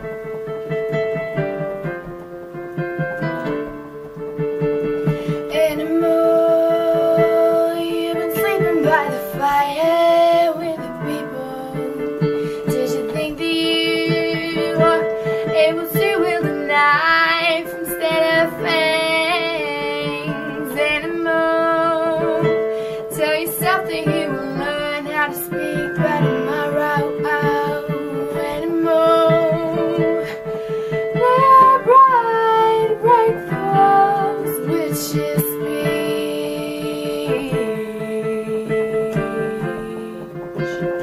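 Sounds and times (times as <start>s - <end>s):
woman singing slow song: 5.0s - 41.0s.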